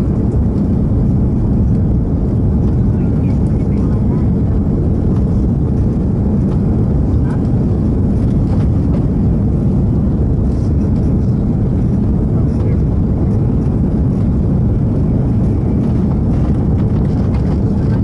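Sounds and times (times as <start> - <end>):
aircraft cabin engine roar: 0.0 - 18.0.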